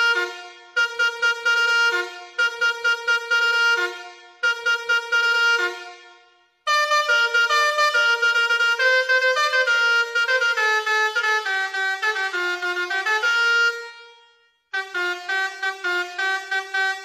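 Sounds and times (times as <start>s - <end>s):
multi-tone horn playing tune: 0.0s - 17.0s.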